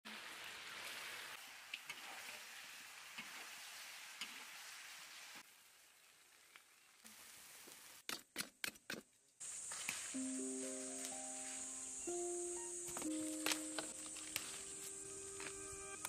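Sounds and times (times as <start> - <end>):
food sizzling in a wok: 0.1 - 8.0, 9.4 - 16.0.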